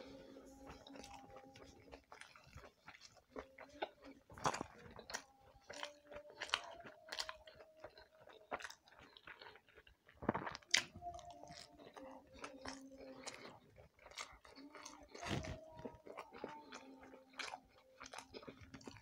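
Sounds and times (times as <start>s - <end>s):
close chewing with mouth clicks: 0.5s - 19.0s.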